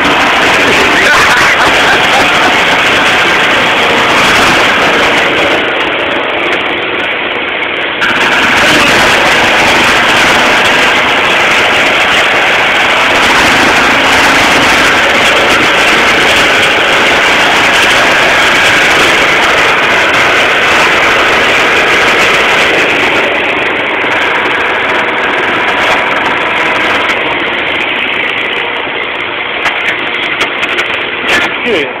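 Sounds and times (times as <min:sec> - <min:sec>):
dumper engine running loudly: 0:00.0 - 0:32.0.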